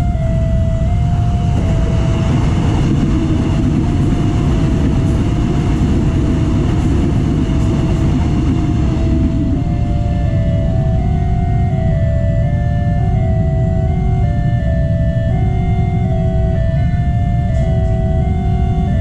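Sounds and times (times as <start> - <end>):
electric train passing: 0.0 - 19.0
level crossing alarm melody: 0.0 - 19.0.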